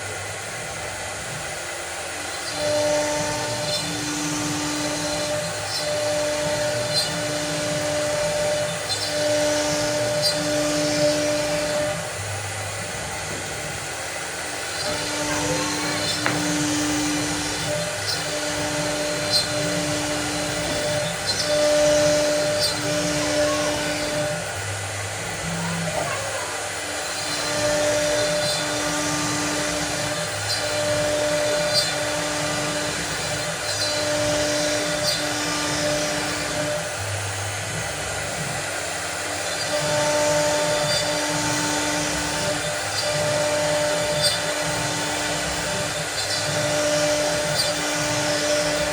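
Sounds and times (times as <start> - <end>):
machine hums: 0.0 - 48.9
machine motor whir: 0.0 - 48.9.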